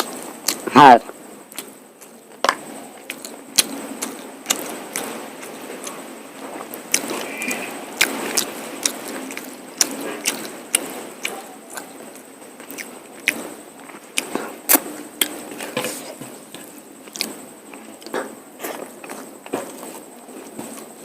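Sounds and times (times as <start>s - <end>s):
wet chewing: 1.5s - 21.0s.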